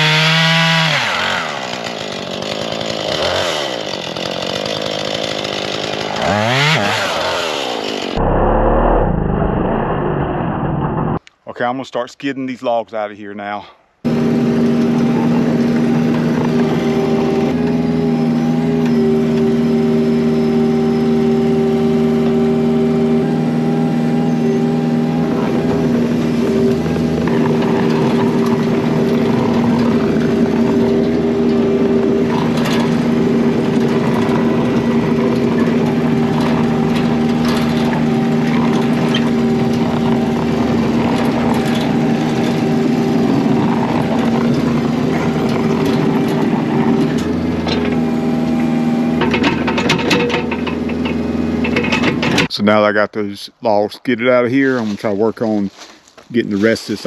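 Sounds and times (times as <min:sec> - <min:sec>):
diesel engine running: 0:00.0 - 0:11.2, 0:14.0 - 0:52.5.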